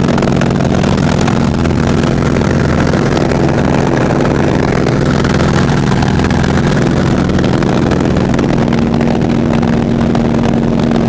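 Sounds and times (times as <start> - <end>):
high steady hum: 0.0 - 11.0
radial aircraft engine and propeller: 0.0 - 11.0.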